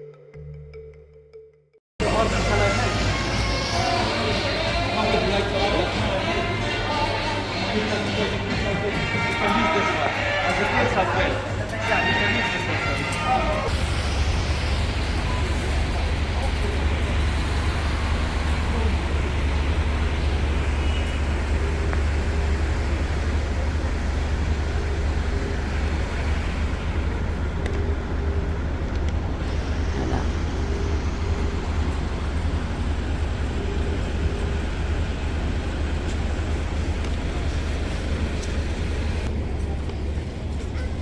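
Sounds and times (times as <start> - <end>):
traffic rumble: 2.0 - 41.0.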